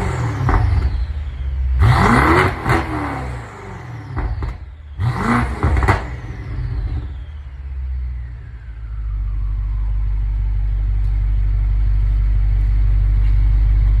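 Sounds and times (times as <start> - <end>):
car engine idling: 0.0 - 14.0
falling whine: 0.0 - 14.0.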